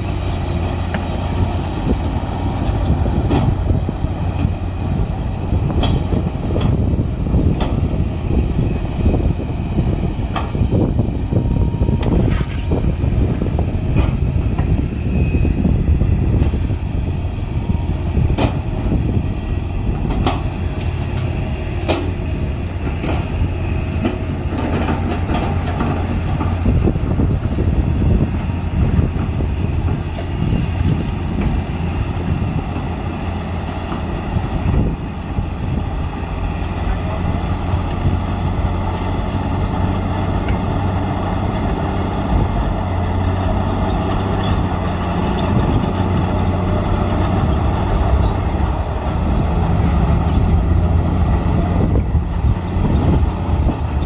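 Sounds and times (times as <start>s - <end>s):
diesel machinery engine hum: 0.0s - 54.0s.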